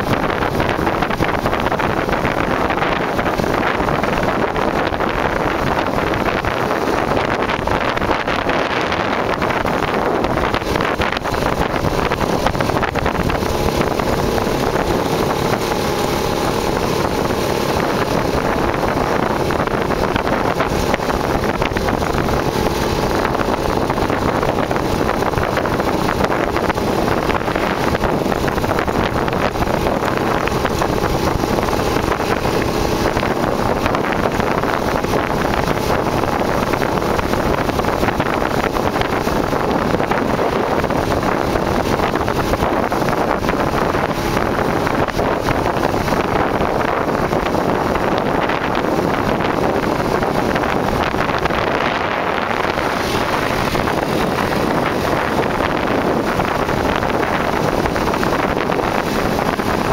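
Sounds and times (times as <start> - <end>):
motorcycle engines running: 0.0 - 59.9
wind rush on microphone: 0.0 - 59.9.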